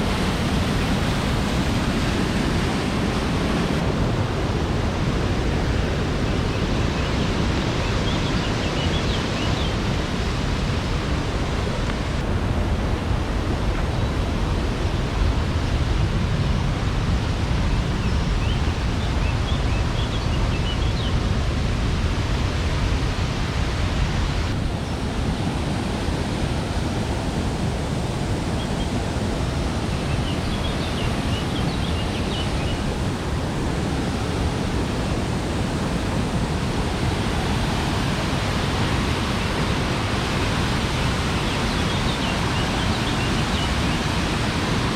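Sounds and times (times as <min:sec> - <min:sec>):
waterfall rushing water: 0:00.0 - 0:44.9.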